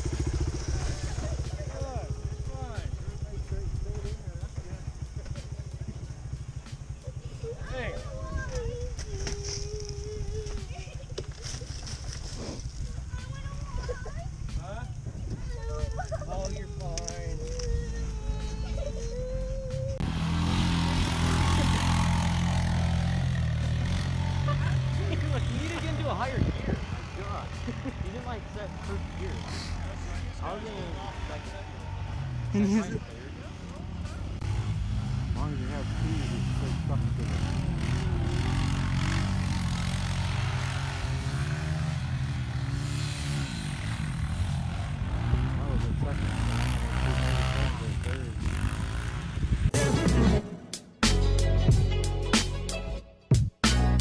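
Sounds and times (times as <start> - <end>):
small engine running: 0.0 - 49.6.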